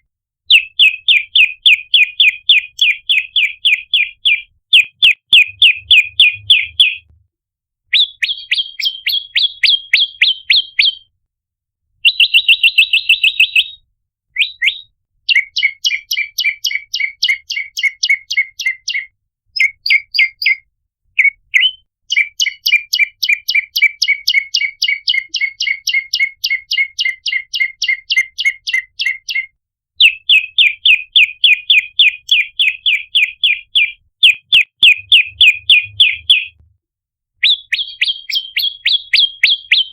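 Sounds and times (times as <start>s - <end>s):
bird chirping rapidly: 0.5s - 7.1s, 7.9s - 11.1s, 12.0s - 13.8s, 14.4s - 20.6s, 21.2s - 36.6s, 37.4s - 39.9s.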